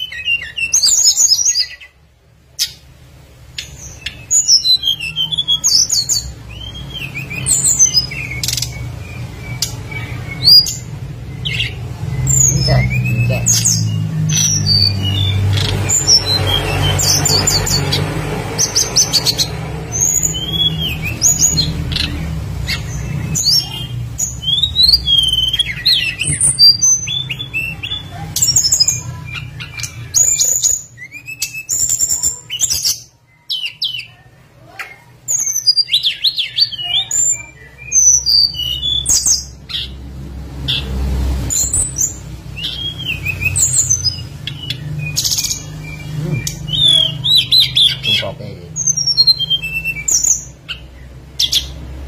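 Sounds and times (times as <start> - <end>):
flycatcher singing: 3.5 - 34.8, 40.7 - 51.8.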